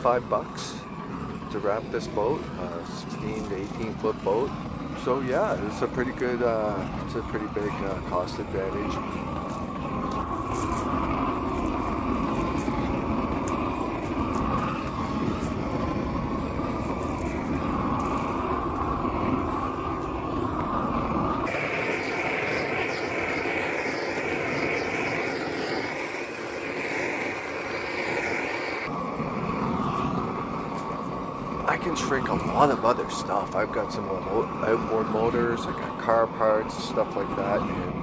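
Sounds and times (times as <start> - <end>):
roofing torch flame rushing: 0.0 - 38.0.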